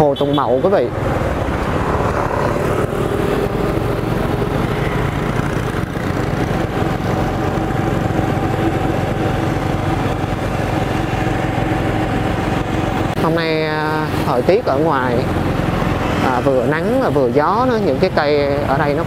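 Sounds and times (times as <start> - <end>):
motorbike engine running: 0.2 - 19.0.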